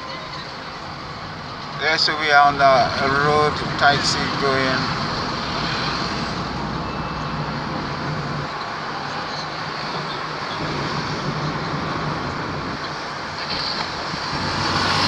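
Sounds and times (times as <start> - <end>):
passing traffic: 0.0 - 15.0
tyres on road: 0.0 - 15.0.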